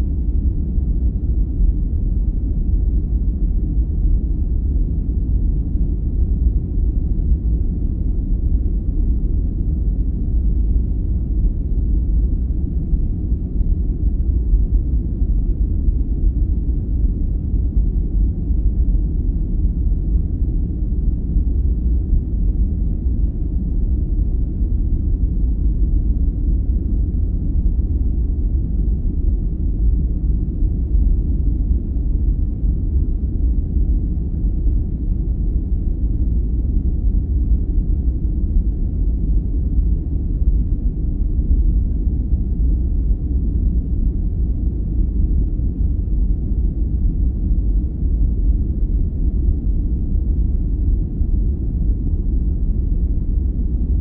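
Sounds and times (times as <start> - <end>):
deep rumbling ambient noise: 0.0 - 54.0.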